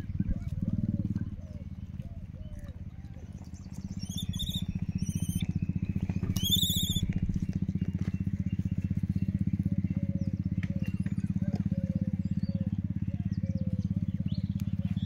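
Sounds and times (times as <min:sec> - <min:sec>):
high trilling bird calls: 0:00.0 - 0:15.0
small engine idling: 0:00.0 - 0:15.0.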